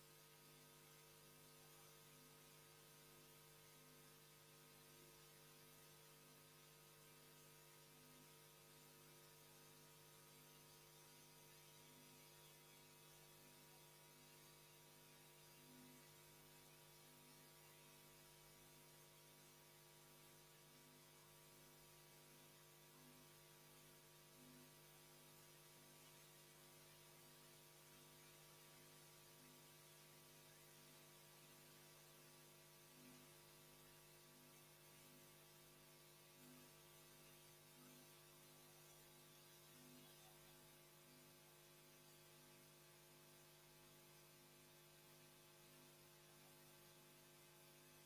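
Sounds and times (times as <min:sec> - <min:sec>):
faint electrical hum: 0:00.0 - 0:48.0.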